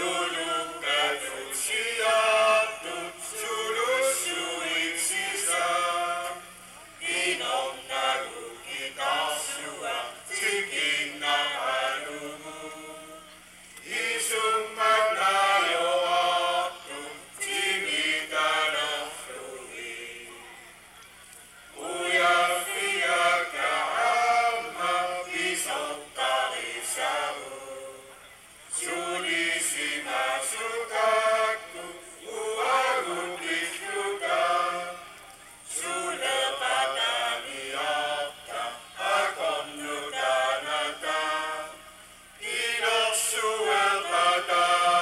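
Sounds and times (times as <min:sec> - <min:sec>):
group singing unaccompanied: 0:00.0 - 0:20.6, 0:21.7 - 0:45.0.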